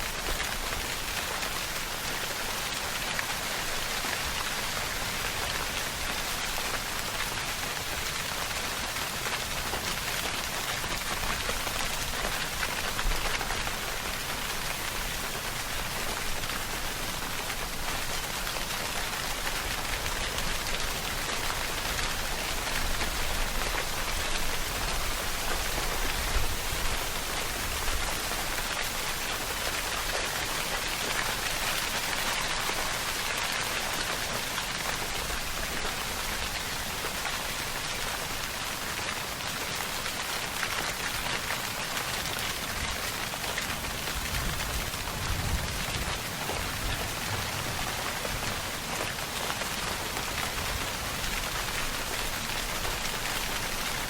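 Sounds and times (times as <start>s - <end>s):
rain spatters: 0.0s - 54.0s
steady rainfall: 0.0s - 54.0s.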